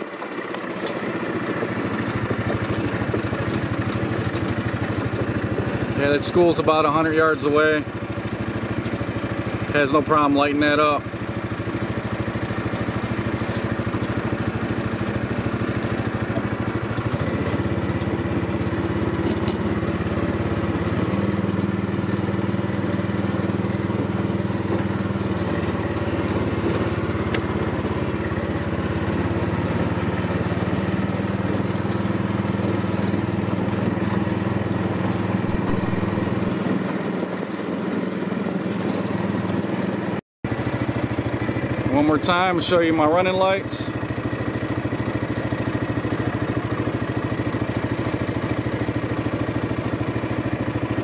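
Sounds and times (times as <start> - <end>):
golf cart engine running: 0.0 - 51.0.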